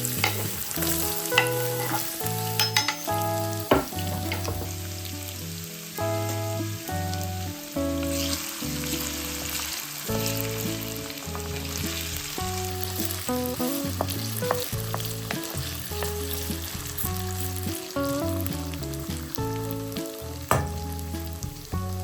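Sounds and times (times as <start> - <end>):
background music: 0.0 - 22.0
food sizzling in a frying pan: 0.0 - 22.0.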